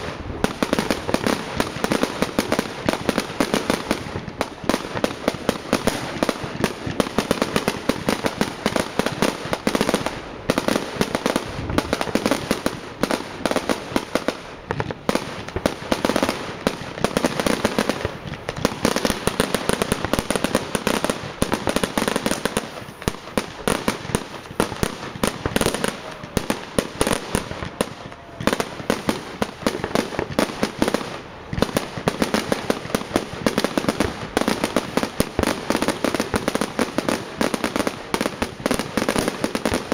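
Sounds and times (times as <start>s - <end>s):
firecracker bangs and crackles: 0.0s - 39.9s.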